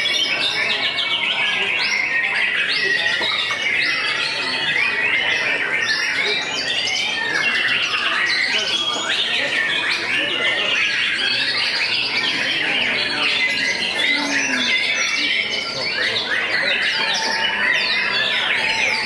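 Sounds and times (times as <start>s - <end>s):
songbirds singing rapid notes: 0.0s - 19.0s.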